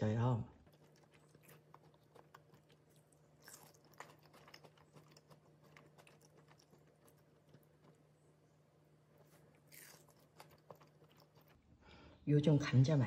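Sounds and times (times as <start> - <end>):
person chewing crunchy food: 0.5 - 11.8.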